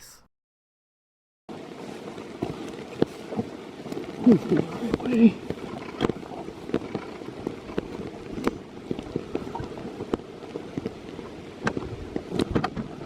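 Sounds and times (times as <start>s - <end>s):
steady rain: 1.5s - 13.0s
raindrops tapping: 1.8s - 13.0s.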